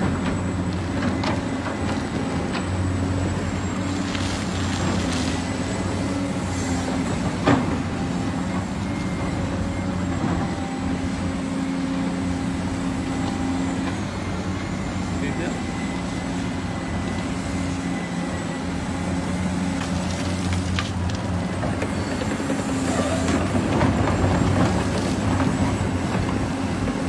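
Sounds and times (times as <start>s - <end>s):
diesel construction machinery running: 0.0s - 27.0s.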